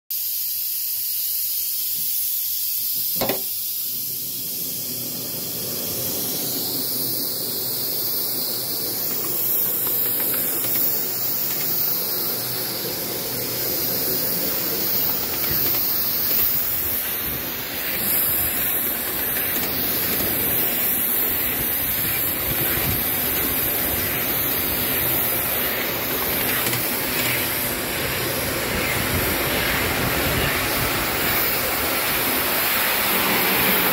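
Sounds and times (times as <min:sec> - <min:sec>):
steam hissing: 0:00.0 - 0:33.9
model locomotive running on track: 0:01.9 - 0:33.9.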